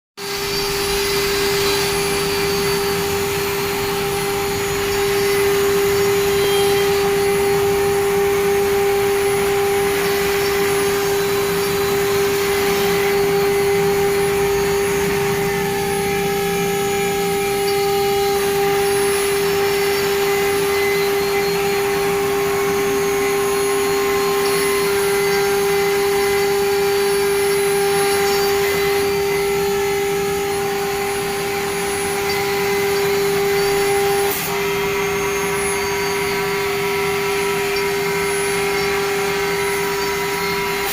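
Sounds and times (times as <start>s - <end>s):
router bit cutting rush: 0.2s - 40.9s
router spindle whine: 0.2s - 40.9s.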